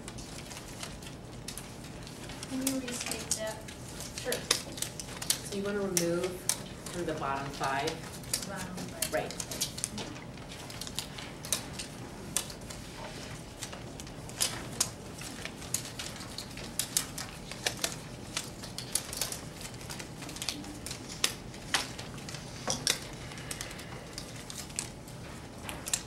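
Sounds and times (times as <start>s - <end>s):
low room hum: 0.0s - 26.0s
items clicking on tabletops: 0.2s - 26.0s.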